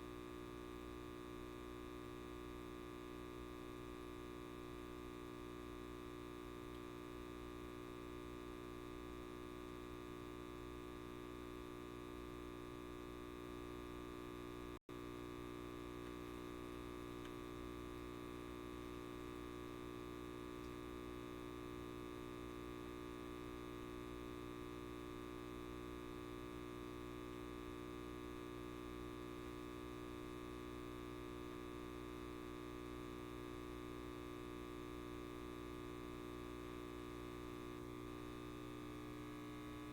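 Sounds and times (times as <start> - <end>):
light bulb electrical buzz: 0.0 - 39.9.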